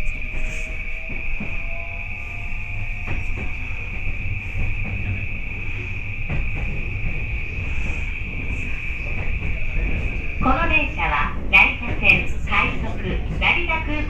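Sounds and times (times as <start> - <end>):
train cabin rumble: 0.0 - 14.0.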